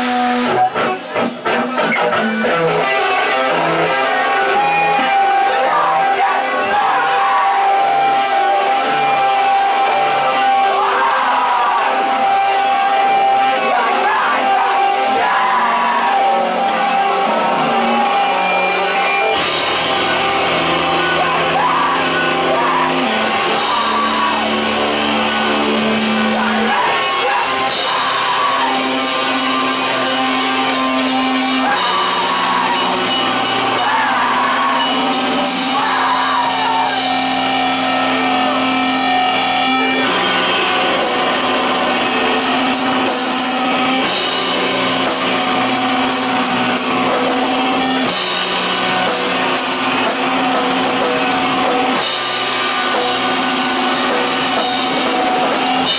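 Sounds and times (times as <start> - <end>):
drum kit: 0.0 - 55.9
electric guitars playing chords: 0.0 - 55.9.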